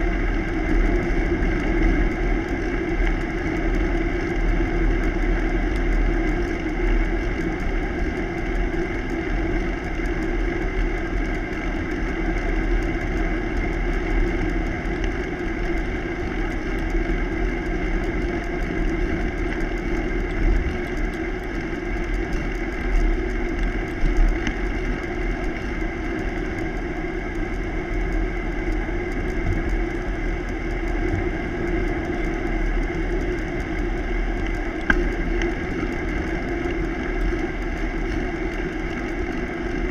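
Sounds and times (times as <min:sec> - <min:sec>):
bicycle tyre hum on road: 0:00.0 - 0:39.9
wind rumble on camera: 0:00.0 - 0:39.9.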